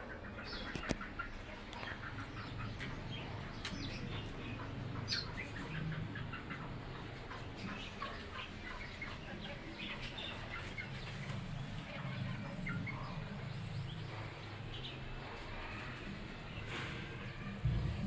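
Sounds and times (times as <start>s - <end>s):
birds chirping: 0.0s - 18.0s
steady low hum: 0.0s - 18.0s.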